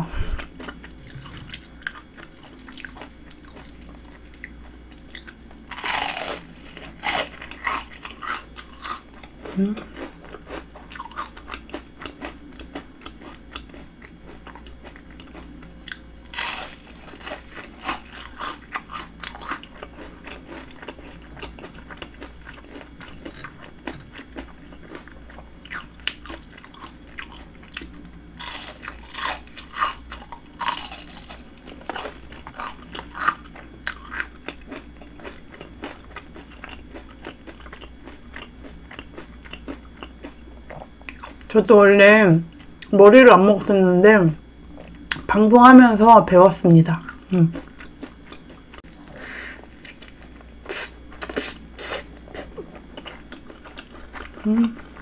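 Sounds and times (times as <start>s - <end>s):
quiet chewing: 0.3s - 41.5s, 47.0s - 55.0s
crunching fried shrimp: 0.4s - 41.5s, 47.0s - 55.0s.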